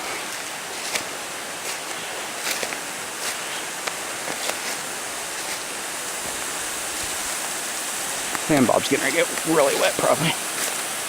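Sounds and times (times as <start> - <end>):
small waterfall rushing: 0.0 - 11.0.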